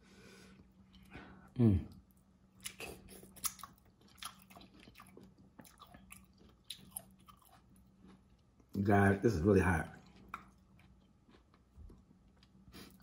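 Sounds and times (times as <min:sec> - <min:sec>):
person chewing wetly: 0:00.6 - 0:08.8, 0:09.9 - 0:13.0.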